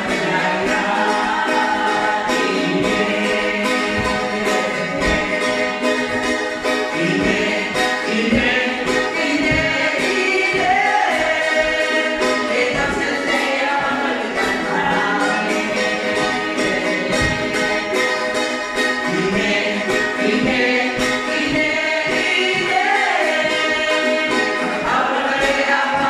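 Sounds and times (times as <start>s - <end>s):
group singing: 0.0s - 26.0s
strummed ukuleles: 0.0s - 26.0s.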